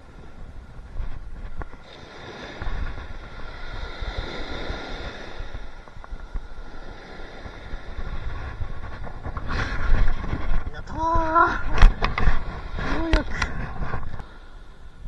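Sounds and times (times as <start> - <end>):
waves washing on sandy shore: 0.0 - 15.0
wind rumbling on microphone: 0.0 - 15.0.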